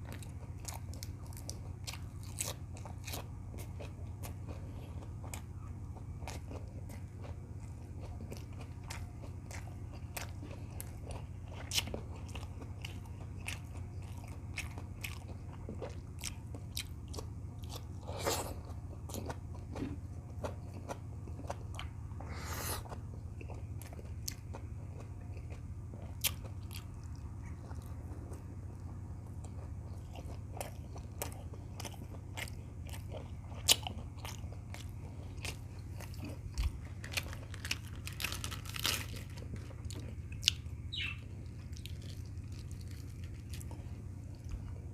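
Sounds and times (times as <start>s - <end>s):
person chewing crunchy food: 0.0s - 44.9s
steady low hum: 0.0s - 44.9s.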